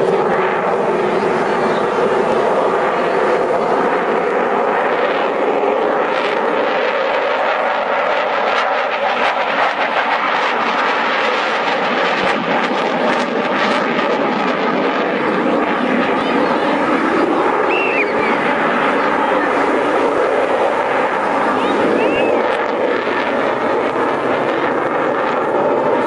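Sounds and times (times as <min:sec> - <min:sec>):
jet fighter flying past: 0:00.0 - 0:26.0.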